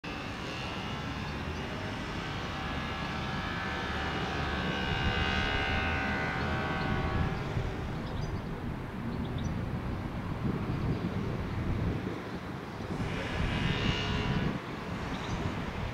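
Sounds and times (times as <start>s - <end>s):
high engine whine: 0.0s - 15.9s
jet engines rumbling: 0.1s - 15.9s.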